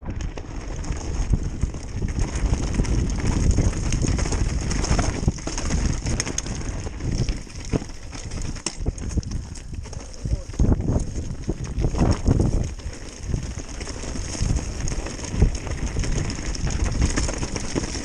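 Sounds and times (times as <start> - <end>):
bike rattling: 0.0 - 18.0
wind buffeting microphone: 0.0 - 18.0
tyres crunching over loose stones: 0.1 - 18.0.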